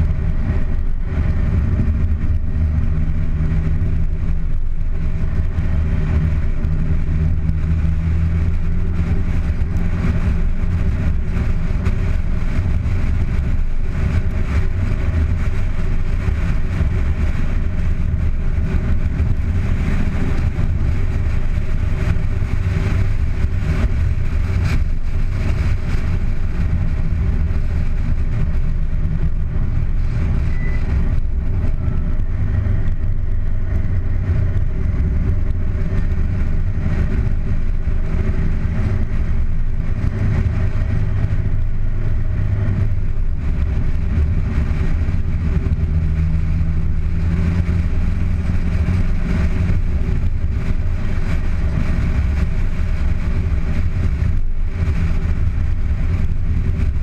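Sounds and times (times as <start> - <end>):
car engine hum: 0.0 - 57.0
road noise rushing: 0.0 - 57.0.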